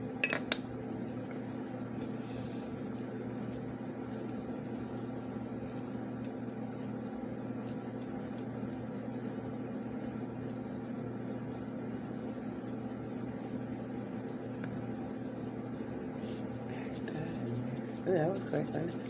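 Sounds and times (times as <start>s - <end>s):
appliance electrical hum: 0.0s - 19.0s.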